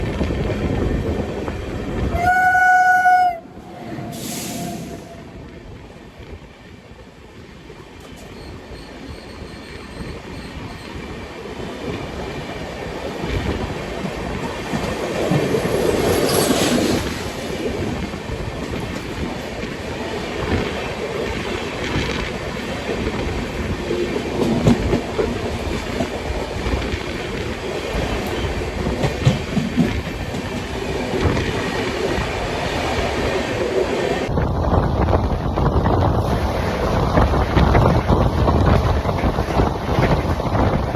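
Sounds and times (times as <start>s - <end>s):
train wheels clattering on rails: 5.8s - 40.9s.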